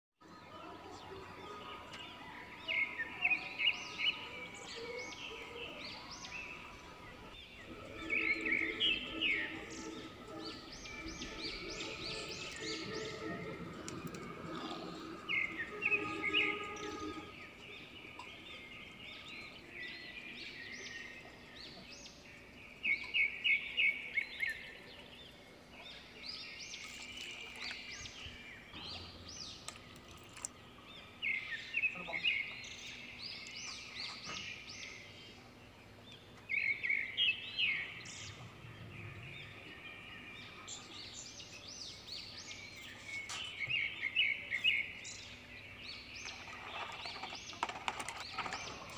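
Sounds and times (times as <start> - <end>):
songbird chirping: 0.2 - 48.9.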